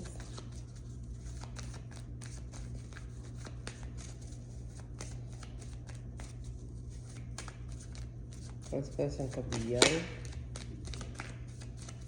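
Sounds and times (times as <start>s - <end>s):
cards being shuffled: 0.0s - 12.0s
steady low hum: 0.0s - 12.0s.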